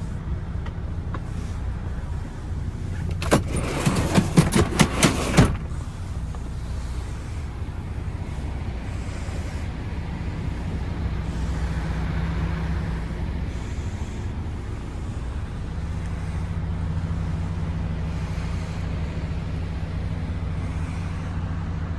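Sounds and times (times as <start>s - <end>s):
truck diesel engine idling: 0.0s - 21.9s.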